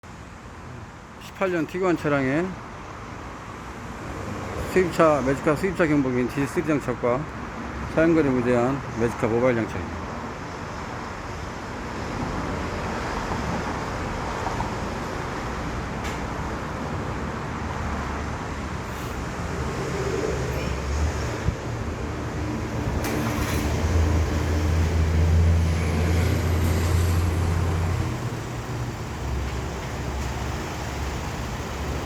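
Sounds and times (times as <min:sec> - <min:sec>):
traffic noise: 0:00.0 - 0:32.0.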